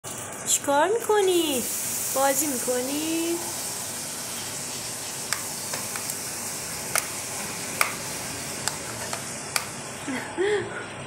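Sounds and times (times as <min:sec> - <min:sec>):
steady hiss: 0:01.0 - 0:10.8.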